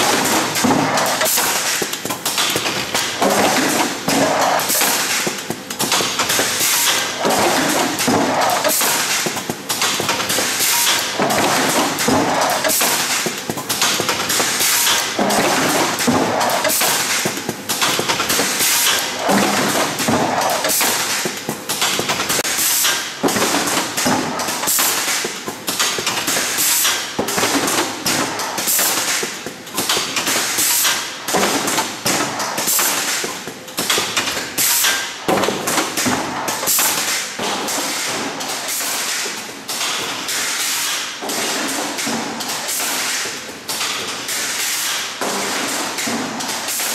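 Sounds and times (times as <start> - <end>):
machine clattering thuds and taps: 0.0 - 40.3
steady mechanical noise: 0.0 - 46.8.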